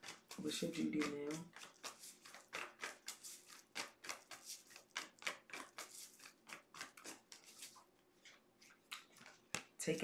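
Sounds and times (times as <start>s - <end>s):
cards being shuffled: 0.6s - 10.0s.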